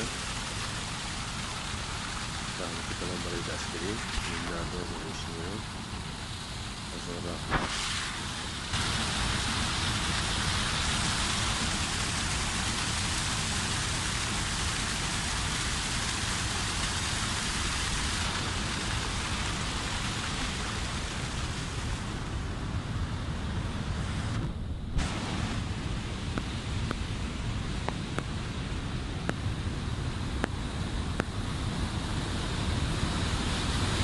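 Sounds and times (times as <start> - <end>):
waterfall rushing over rocks: 0.0 - 23.0, 25.0 - 34.0.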